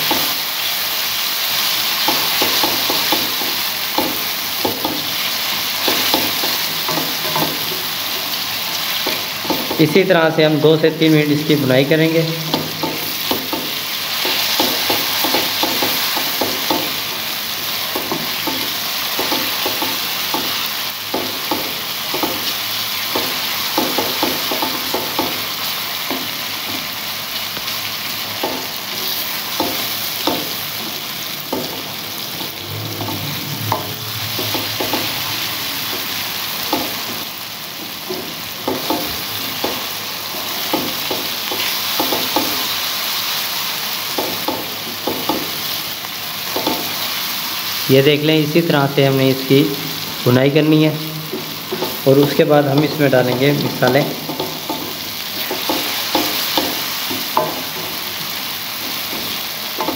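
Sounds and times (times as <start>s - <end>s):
masala sizzling in oil: 0.0s - 59.9s
spatula scraping and tapping pan: 1.9s - 10.1s, 11.4s - 42.8s, 44.1s - 45.8s, 46.5s - 47.1s, 50.7s - 59.9s.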